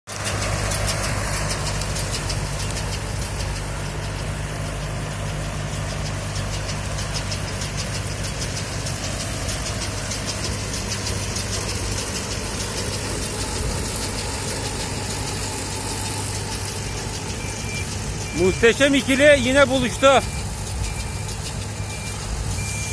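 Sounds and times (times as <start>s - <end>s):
tractor engine humming: 0.1s - 22.9s
rapid even ticking: 0.2s - 22.6s.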